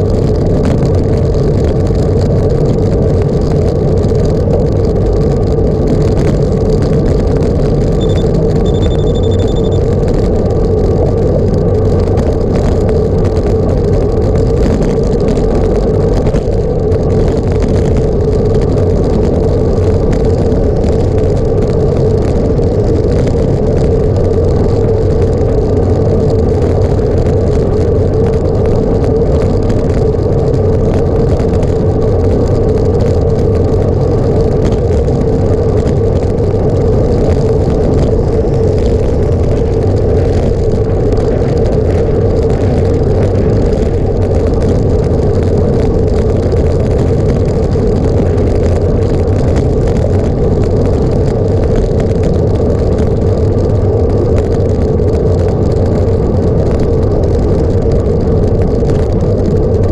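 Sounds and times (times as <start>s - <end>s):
vehicle droning: 0.0s - 59.9s.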